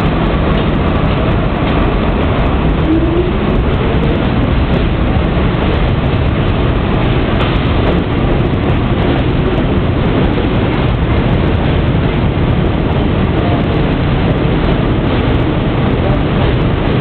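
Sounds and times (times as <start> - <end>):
subway train rumbling past: 0.0 - 17.0.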